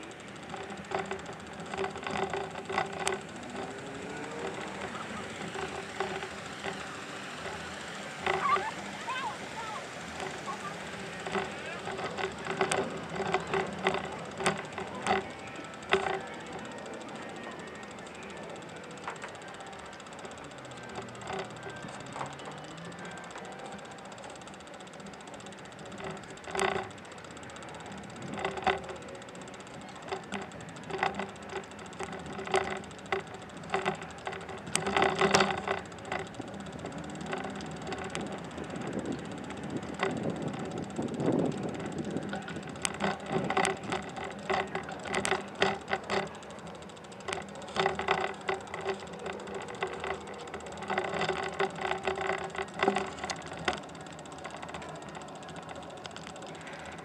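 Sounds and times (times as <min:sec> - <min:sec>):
bicycle rattling over bumps: 0:00.0 - 0:57.0
bicycle rolling noise: 0:00.0 - 0:57.0.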